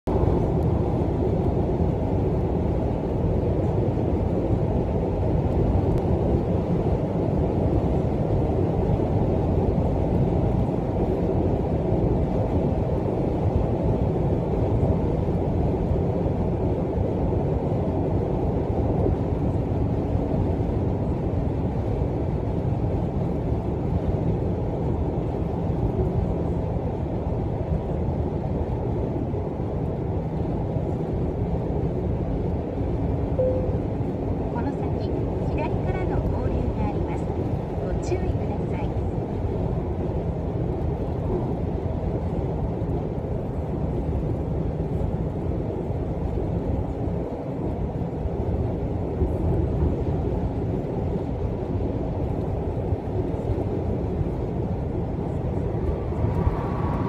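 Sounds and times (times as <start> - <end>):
car road noise rumble: 0.1 - 57.0.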